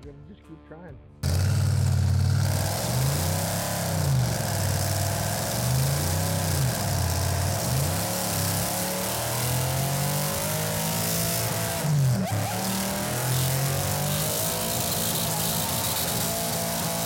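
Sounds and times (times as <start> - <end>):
supercharged engine revving: 1.2 - 17.0
tyres spinning on wet pavement: 1.2 - 17.0.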